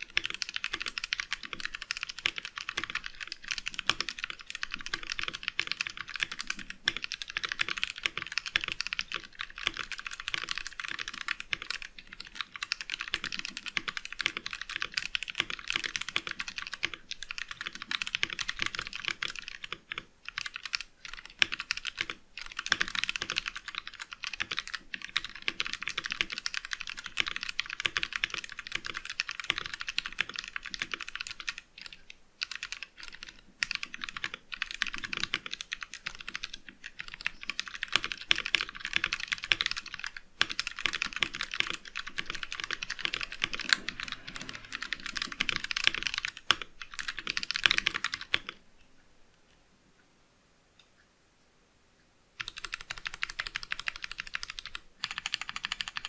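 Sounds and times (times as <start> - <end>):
mechanical keyboard typing: 0.0 - 48.6, 52.4 - 56.0.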